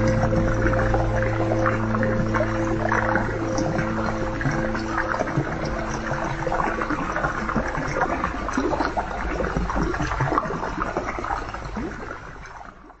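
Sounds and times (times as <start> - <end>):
water bubbling: 0.0 - 13.0
water trickling and gurgling: 0.0 - 13.0.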